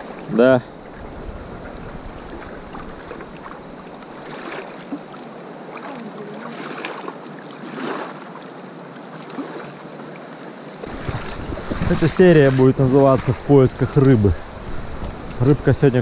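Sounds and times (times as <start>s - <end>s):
river rushing over stones: 0.0s - 16.0s.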